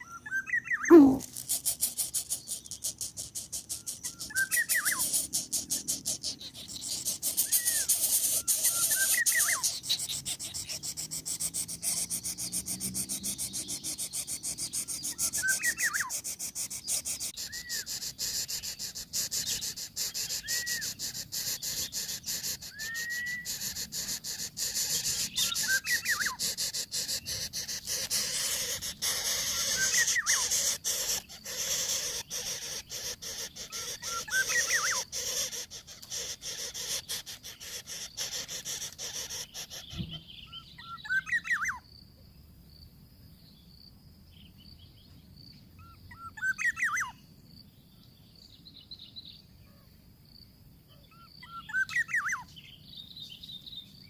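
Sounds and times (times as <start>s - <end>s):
thin whistled bird calls: 0.0s - 41.8s, 45.8s - 47.2s, 50.9s - 54.0s.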